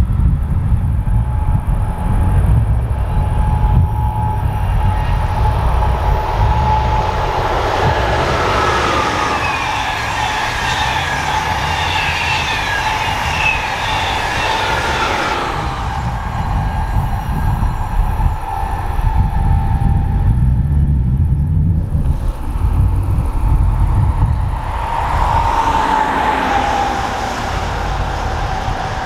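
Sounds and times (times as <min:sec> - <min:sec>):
train rushing past: 0:00.0 - 0:29.0
whining tones falling in pitch: 0:00.0 - 0:29.0.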